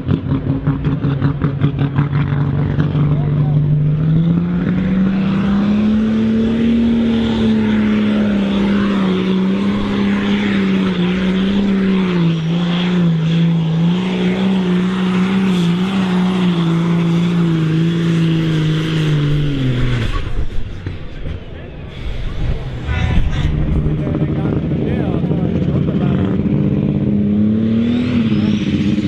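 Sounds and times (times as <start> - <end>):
diesel engine running under full load: 0.0 - 29.0.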